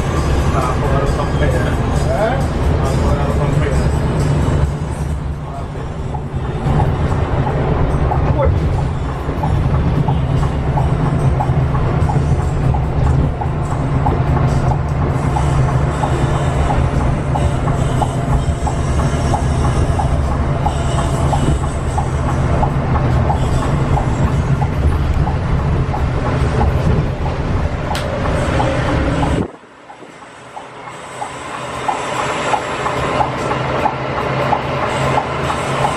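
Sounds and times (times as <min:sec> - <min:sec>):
bus engine and tyres droning: 0:00.0 - 0:35.9.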